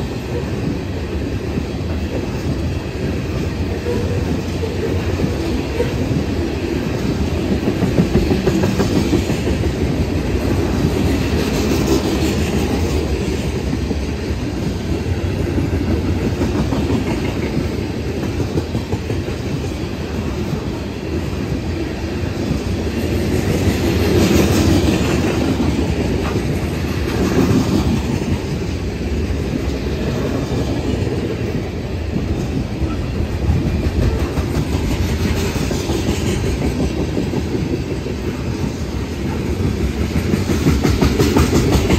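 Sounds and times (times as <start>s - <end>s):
freight train wheels rumbling and clattering: 0.0s - 41.9s.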